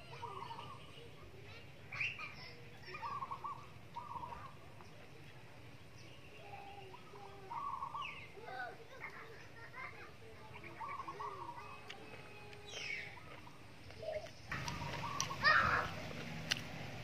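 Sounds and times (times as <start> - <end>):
birds trilling: 0.0 - 5.0, 5.8 - 8.8, 10.4 - 17.0
low background noise: 0.0 - 17.0.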